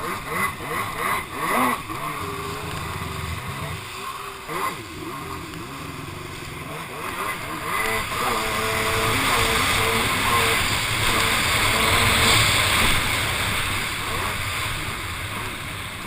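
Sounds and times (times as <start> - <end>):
jet ski engine running: 0.0 - 16.0
rushing water: 0.0 - 16.0
wind: 0.0 - 16.0.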